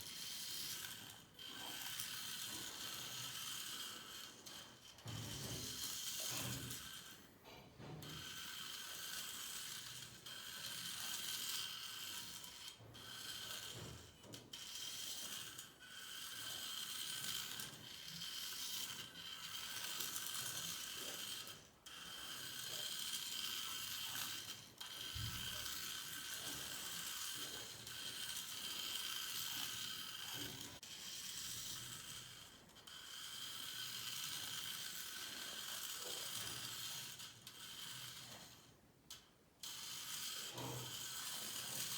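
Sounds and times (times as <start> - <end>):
toy car motor whirring whine: 0.0 - 41.9.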